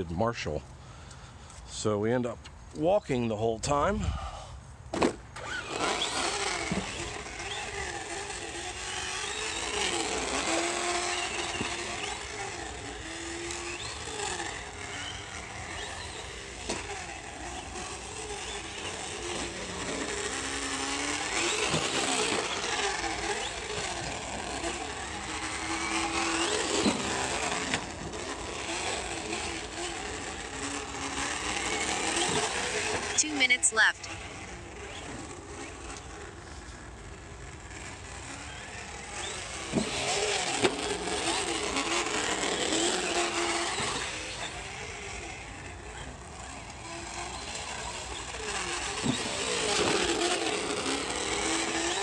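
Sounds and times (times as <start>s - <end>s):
recorded engine revving from speaker: 5.4s - 52.0s.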